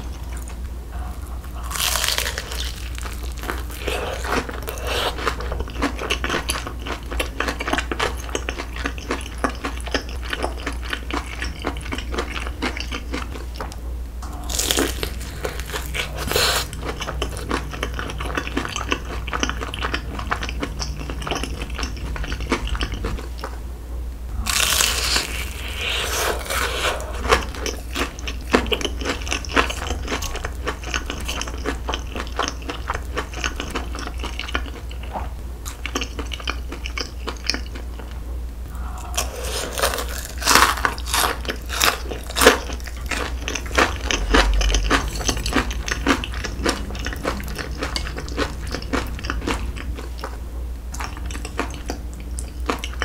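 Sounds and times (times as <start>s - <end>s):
person chewing crunchy food: 0.0s - 23.6s, 24.3s - 53.0s.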